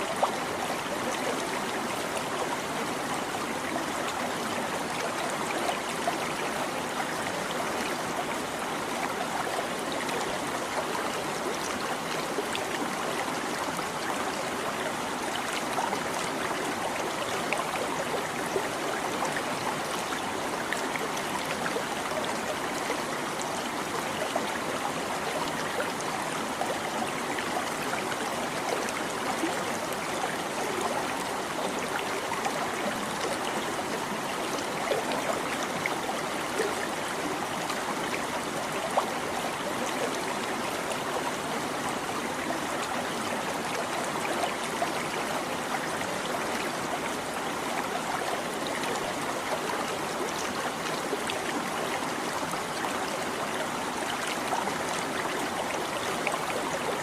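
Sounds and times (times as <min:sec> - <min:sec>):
stream babbling and trickling: 0:00.0 - 0:57.0.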